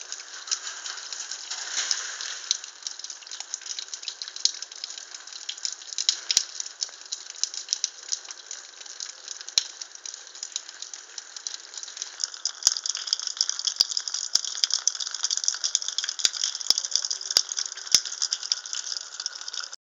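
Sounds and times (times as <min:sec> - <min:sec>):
meltwater dripping onto ice: 0:00.0 - 0:19.8.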